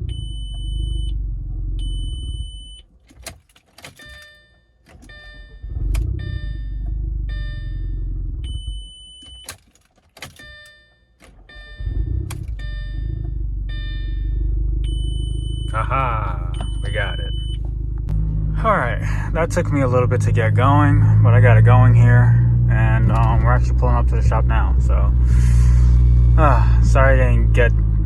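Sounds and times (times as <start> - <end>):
dashboard warning chimes: 0.0 - 18.1, 19.4 - 24.8
car engine starting and stalling: 0.0 - 28.0.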